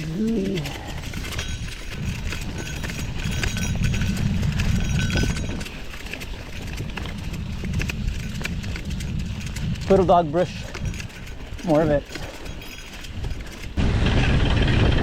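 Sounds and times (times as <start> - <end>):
bike tyres crunching on stones: 0.0 - 13.8
bike rattling over bumps: 0.0 - 15.0.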